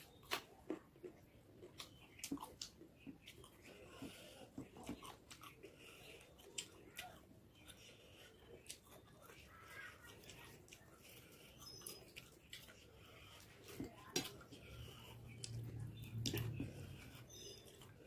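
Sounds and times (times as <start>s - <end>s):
chewing and lip smacks: 0.0s - 18.0s.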